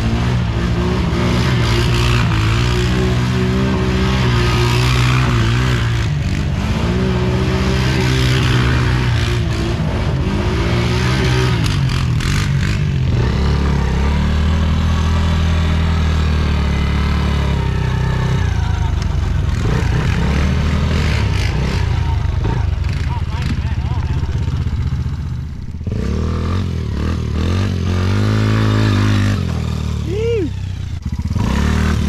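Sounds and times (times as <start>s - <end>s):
quad bike engine revving: 0.0s - 32.0s.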